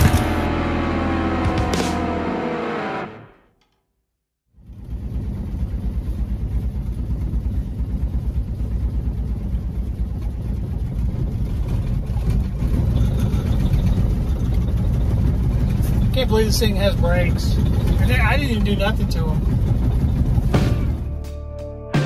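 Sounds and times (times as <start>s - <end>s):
car engine running: 0.0s - 3.4s, 4.6s - 21.3s.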